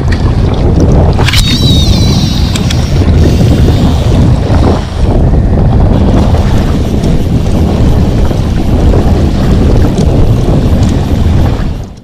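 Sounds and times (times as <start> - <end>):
sea wash: 0.0 - 12.0
wind buffeting microphone: 0.0 - 12.0.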